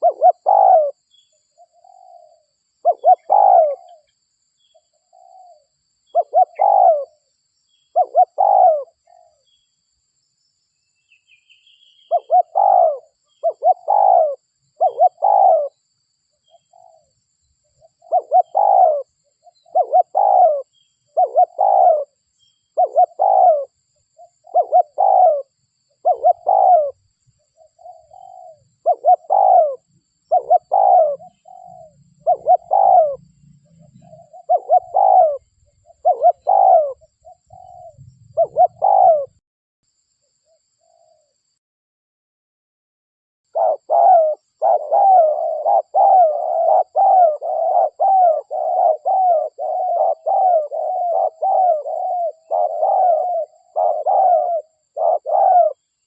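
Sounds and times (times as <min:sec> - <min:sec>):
dove cooing: 0:00.0 - 0:04.1, 0:04.7 - 0:09.4, 0:11.9 - 0:15.8, 0:16.4 - 0:17.2, 0:17.8 - 0:39.4, 0:43.5 - 0:56.0.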